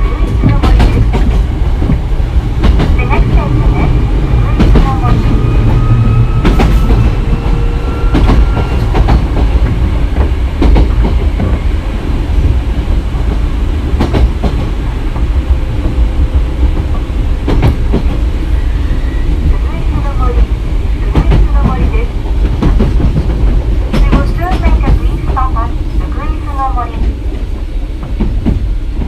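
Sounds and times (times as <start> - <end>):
train low rumble: 0.0 - 29.0.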